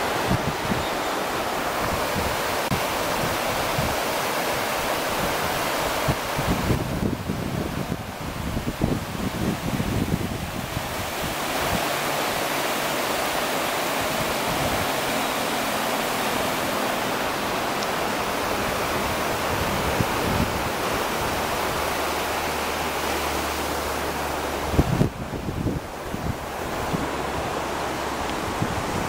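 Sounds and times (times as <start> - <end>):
river rushing over rapids: 0.0 - 29.0.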